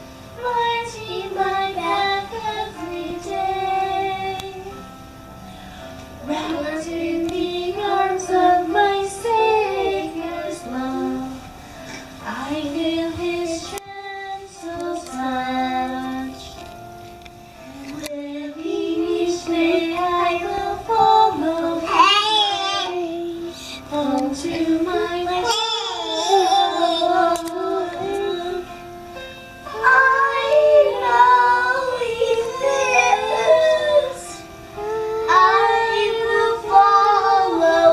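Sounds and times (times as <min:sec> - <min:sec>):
children and woman singing: 0:00.4 - 0:04.8, 0:06.2 - 0:16.6, 0:17.7 - 0:28.8, 0:29.6 - 0:37.9.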